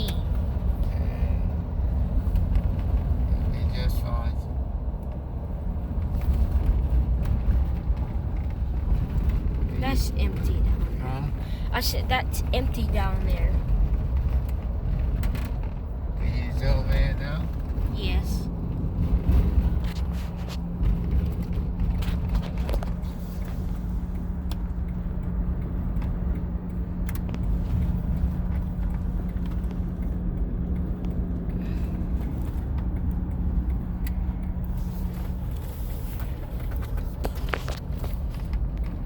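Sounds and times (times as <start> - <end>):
car engine rumble inside cabin: 0.0 - 39.0.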